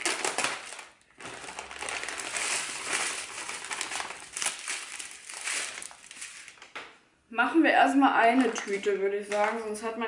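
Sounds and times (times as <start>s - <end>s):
plastic bags crinkling: 0.0s - 7.0s, 8.2s - 9.8s.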